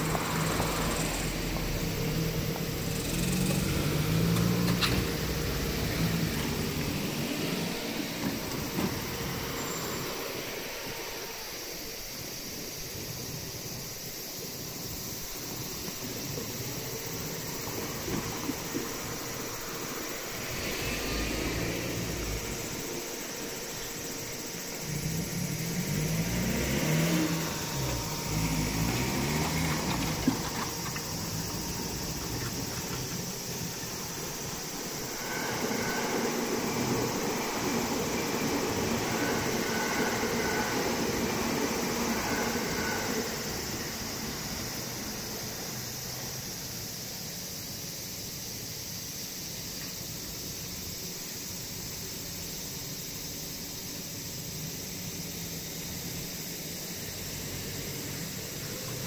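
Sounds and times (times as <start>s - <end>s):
cars and truck driving past: 0.0s - 59.0s.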